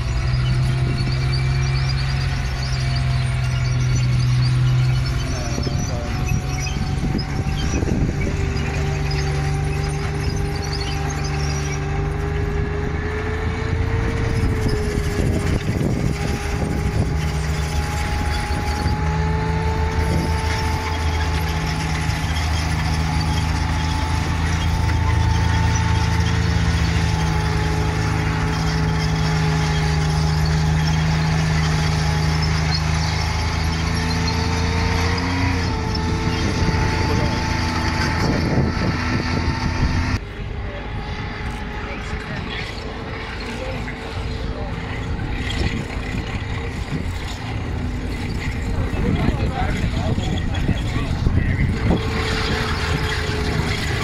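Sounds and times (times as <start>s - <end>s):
tank engine droning: 0.0s - 54.0s.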